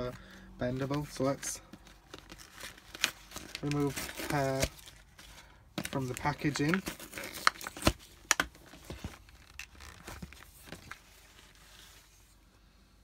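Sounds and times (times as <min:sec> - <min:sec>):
plastic crinkling and rustling: 0:00.7 - 0:12.3.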